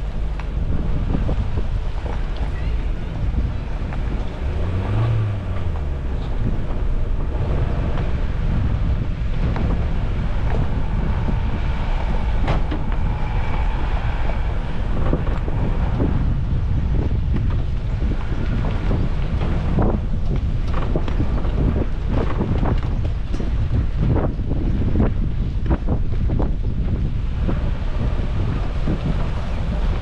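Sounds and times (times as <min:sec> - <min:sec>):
car engine and road rumble: 0:00.0 - 0:30.0
wind buffeting microphone: 0:00.0 - 0:30.0
knocks and rattles: 0:00.2 - 0:26.4.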